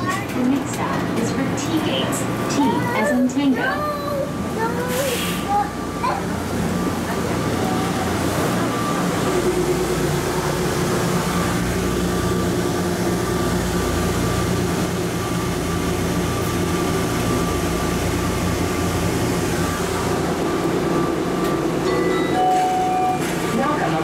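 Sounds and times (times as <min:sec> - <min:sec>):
train rumbling through tunnel: 0:00.0 - 0:24.0.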